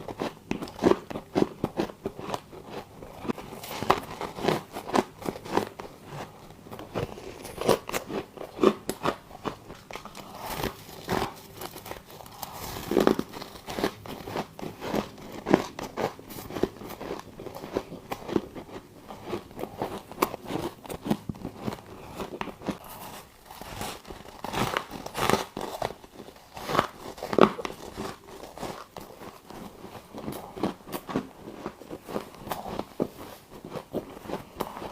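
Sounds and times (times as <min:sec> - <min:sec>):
chewing and crunching ice: 0:00.0 - 0:34.9.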